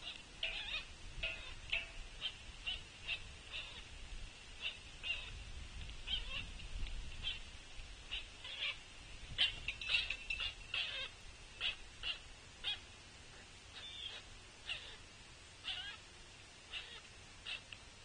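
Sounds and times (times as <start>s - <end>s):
young woodpecker begging calls: 0.0s - 13.0s, 13.7s - 16.0s, 16.7s - 17.8s.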